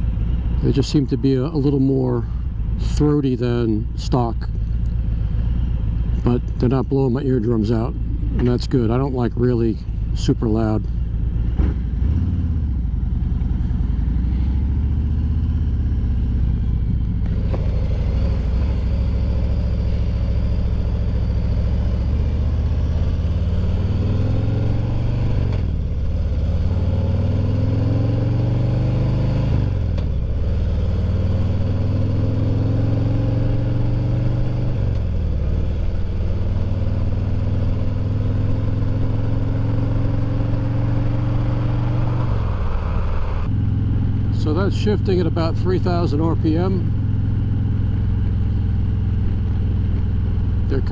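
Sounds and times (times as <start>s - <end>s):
motorcycle engine accelerating: 4.5s - 50.9s.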